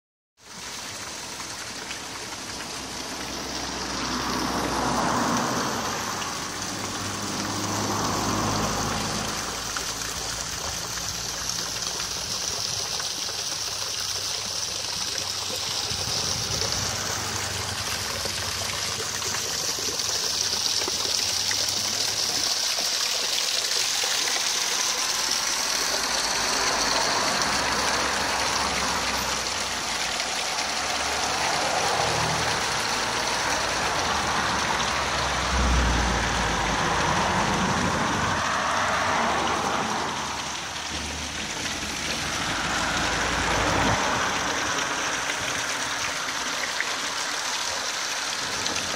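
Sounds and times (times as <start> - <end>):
waterfall splashing into pool: 0.4 - 48.9.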